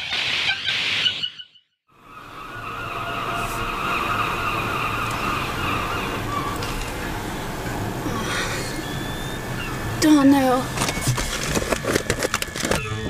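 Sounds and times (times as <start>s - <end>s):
low car rumble: 2.0s - 13.0s
car tyres screeching: 2.1s - 13.0s.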